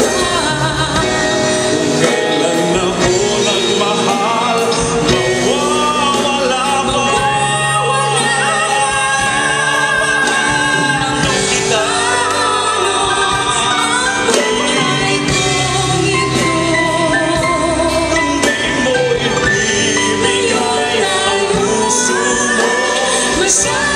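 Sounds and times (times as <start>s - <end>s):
live band playing ballad: 0.0s - 23.9s
person singing: 0.0s - 23.9s.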